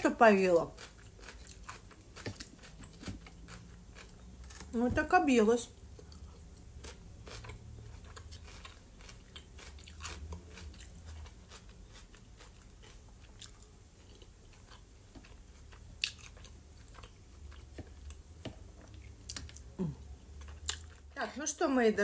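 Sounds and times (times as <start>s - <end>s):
person chewing fried potatoes: 0.6s - 4.8s, 5.8s - 21.1s.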